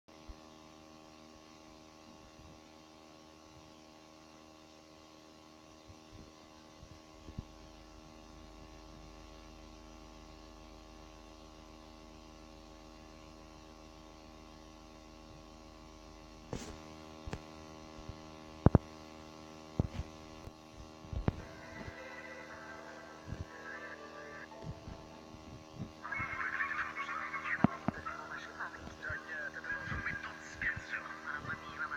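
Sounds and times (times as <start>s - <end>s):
electrical hum: 0.1s - 31.9s.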